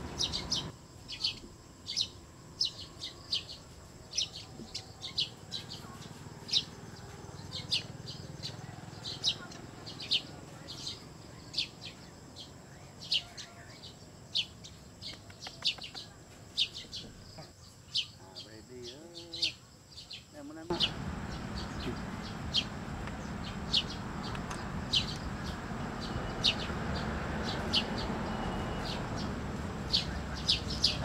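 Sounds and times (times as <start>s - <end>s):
small bird chirping: 0.0s - 31.0s.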